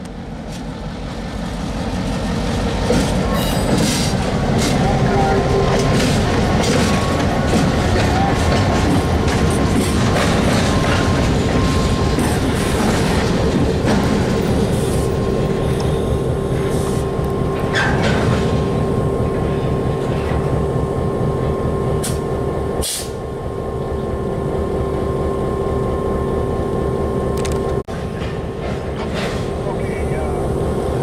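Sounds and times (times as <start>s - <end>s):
freight train rumbling: 0.0s - 31.0s
train clanks and squeaks: 1.8s - 23.2s, 27.4s - 31.0s.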